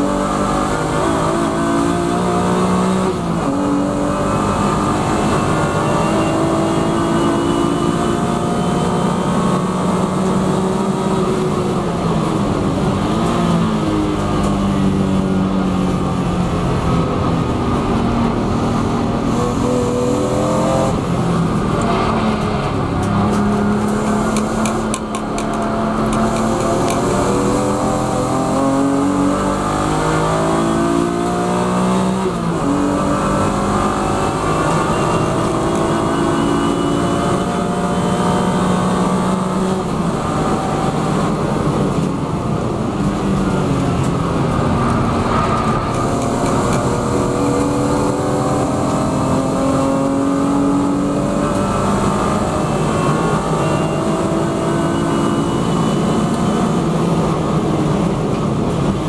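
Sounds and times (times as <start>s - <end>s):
race car engine at full throttle: 0.0s - 59.0s
road and wind noise: 0.0s - 59.0s.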